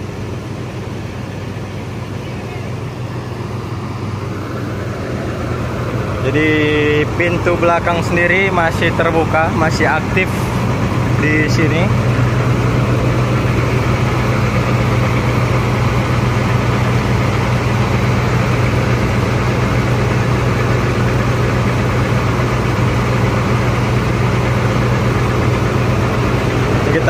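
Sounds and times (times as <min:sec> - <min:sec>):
bus diesel engine idling: 0:00.0 - 0:27.0.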